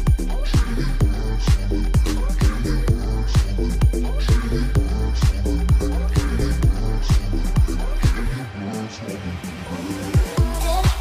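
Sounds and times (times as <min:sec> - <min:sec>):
kick drum: 0:00.0 - 0:08.4, 0:10.2 - 0:11.0
synth melody: 0:00.0 - 0:10.8
electronic dance music: 0:00.0 - 0:11.0.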